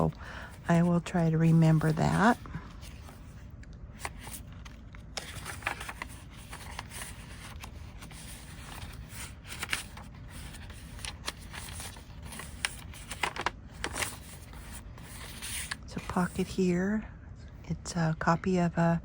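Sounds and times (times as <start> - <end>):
paper pages rustling: 0.0 - 16.5
low steady hum: 0.0 - 19.0.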